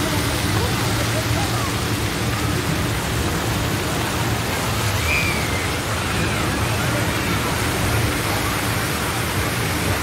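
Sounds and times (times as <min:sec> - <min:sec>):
faint distant voices: 0:00.0 - 0:10.0
running and splashing water: 0:00.0 - 0:10.0.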